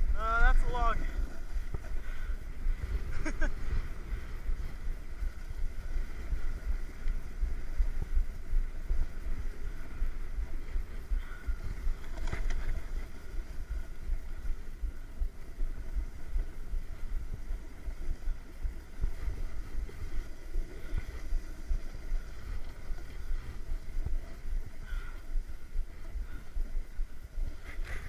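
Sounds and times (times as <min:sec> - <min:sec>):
skis sliding on snow: 0:00.0 - 0:28.0
wind buffeting microphone: 0:00.0 - 0:28.0.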